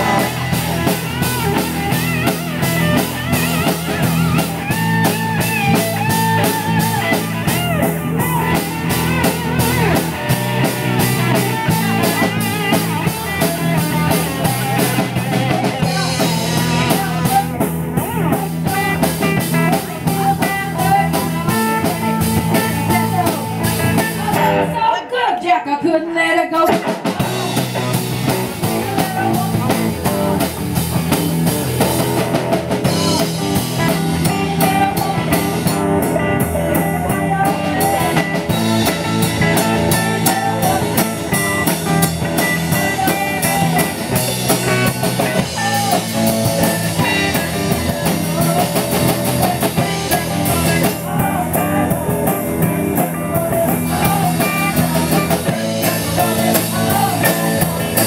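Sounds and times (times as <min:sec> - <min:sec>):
live rock band playing: 0:00.0 - 0:25.2, 0:25.8 - 0:58.0.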